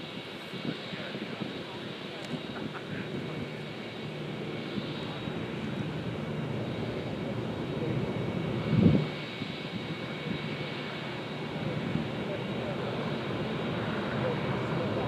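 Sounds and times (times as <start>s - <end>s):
distant jet airliner rumble: 0.0s - 15.0s.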